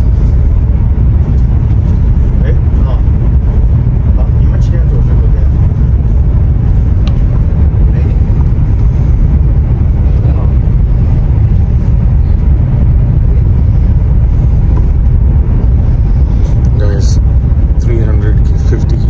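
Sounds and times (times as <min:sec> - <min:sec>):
train cabin low rumble: 0:00.0 - 0:19.0.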